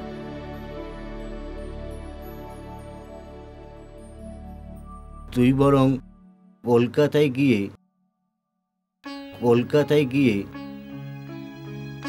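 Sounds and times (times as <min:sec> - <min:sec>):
soft sad background music: 0:00.0 - 0:08.0, 0:09.1 - 0:12.0.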